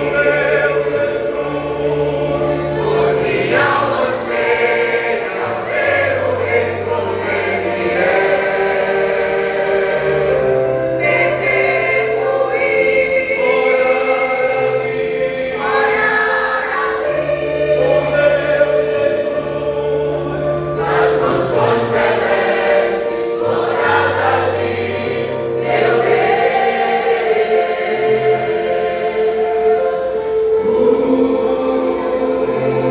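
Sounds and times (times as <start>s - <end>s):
gospel choir singing in harmony: 0.0s - 32.9s
instrumental accompaniment: 0.0s - 32.9s.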